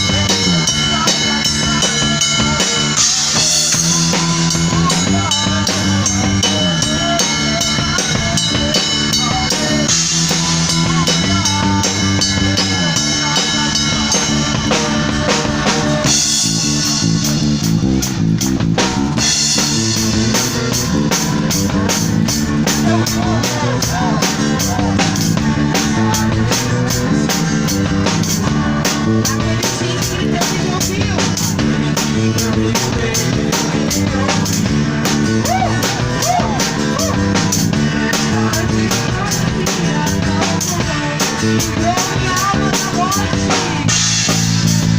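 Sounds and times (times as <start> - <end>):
drum kit fast beat: 0.0 - 44.9
live band playing worship music: 0.0 - 44.9.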